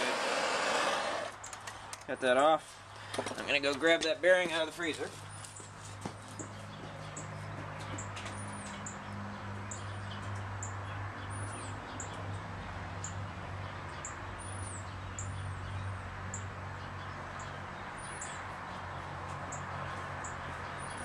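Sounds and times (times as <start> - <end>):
small birds chirping: 4.2 - 21.0.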